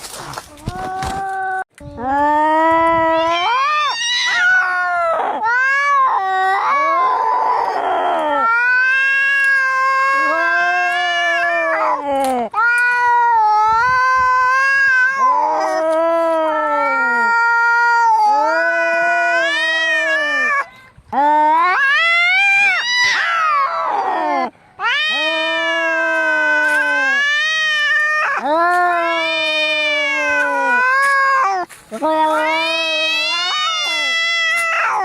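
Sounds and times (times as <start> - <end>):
cats yowling: 2.8 - 35.0.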